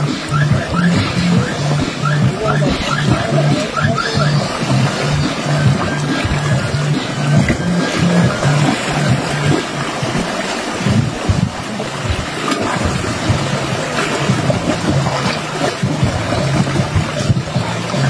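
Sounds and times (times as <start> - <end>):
sea water splashing around wader: 0.0 - 18.0.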